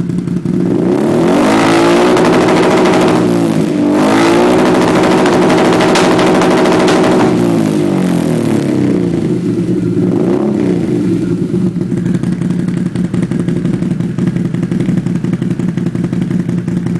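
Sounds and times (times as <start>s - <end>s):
vehicle engine revving and idling: 0.0s - 16.9s.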